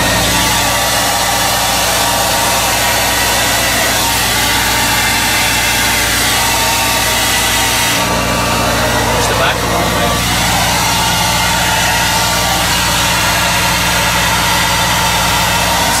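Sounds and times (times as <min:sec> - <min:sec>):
hair dryer blowing air: 0:00.0 - 0:16.0
steady low hum: 0:00.0 - 0:16.0.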